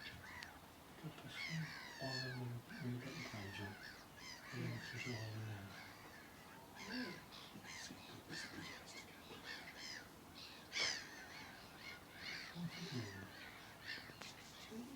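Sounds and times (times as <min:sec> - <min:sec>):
birds calling harshly: 0:00.0 - 0:14.9.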